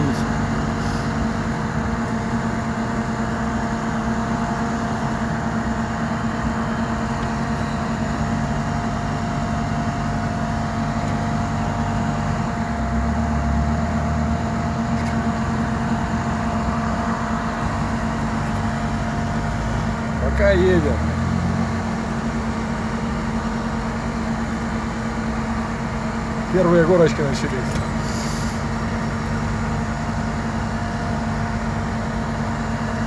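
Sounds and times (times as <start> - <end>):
truck engine drone: 0.0 - 33.0.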